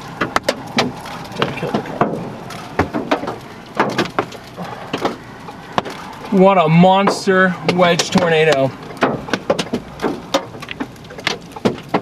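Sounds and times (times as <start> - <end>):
hailstones striking a vehicle: 0.0 - 12.0.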